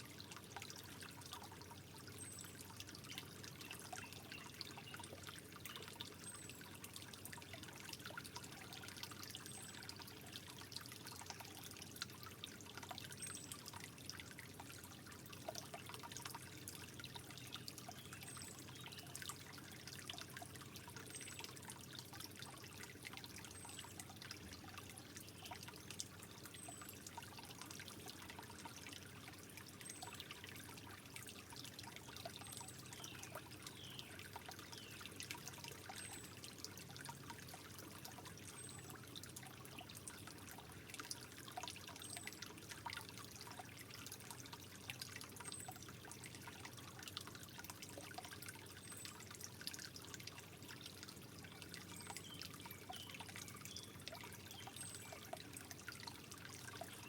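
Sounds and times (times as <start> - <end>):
water drips: 0.0 - 57.0
water trickling: 0.0 - 57.0.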